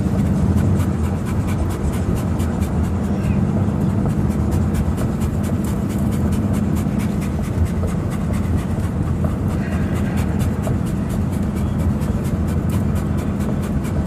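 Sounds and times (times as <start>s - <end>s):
car drone: 0.0s - 14.0s
dog panting: 0.0s - 14.0s.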